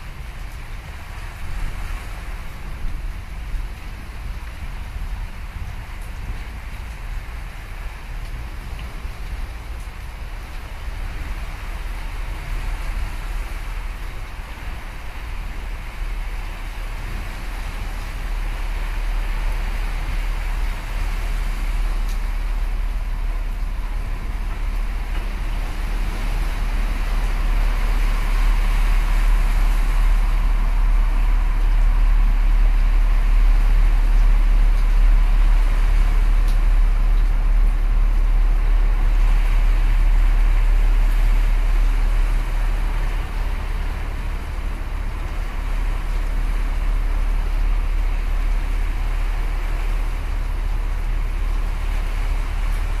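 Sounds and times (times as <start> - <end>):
waves breaking on rocks: 0.0 - 53.0
wind rumble on microphone: 0.0 - 53.0.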